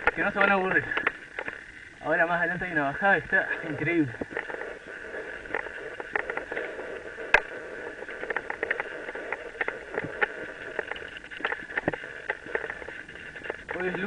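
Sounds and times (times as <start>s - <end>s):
bike clicks and rattles: 0.0s - 14.0s
mountain bike tyres on dirt: 0.0s - 14.0s.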